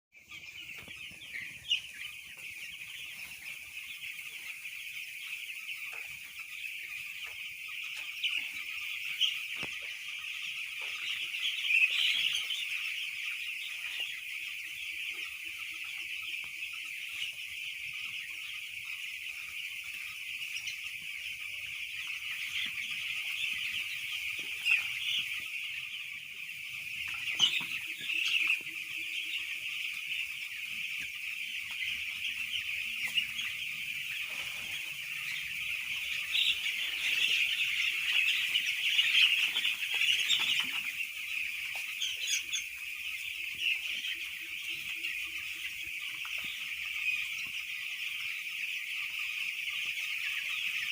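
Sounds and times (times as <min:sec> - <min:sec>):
chicks peeping: 0:00.2 - 0:50.9.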